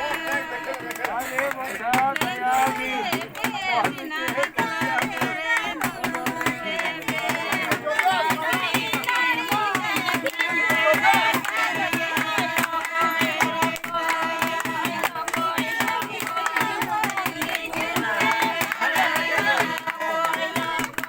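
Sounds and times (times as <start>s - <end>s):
person singing: 0.0s - 21.0s
steady percussive beat: 0.0s - 21.0s.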